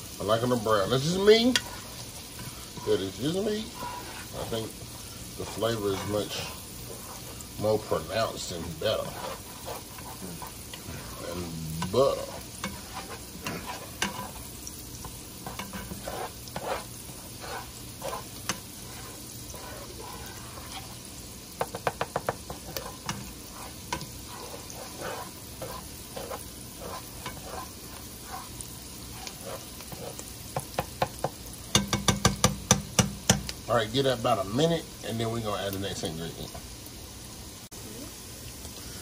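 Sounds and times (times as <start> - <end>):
onions sizzling in butter: 0.0 - 39.0
spatula scraping pan: 0.2 - 34.6.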